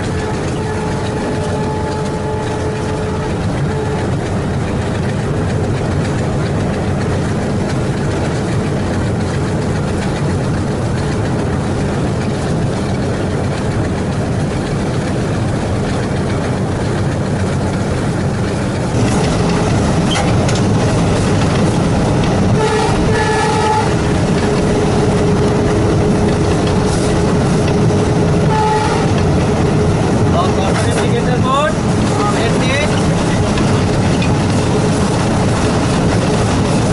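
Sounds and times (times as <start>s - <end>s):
diesel locomotive engine chugging: 0.0s - 36.9s
train running on rails: 0.0s - 36.9s.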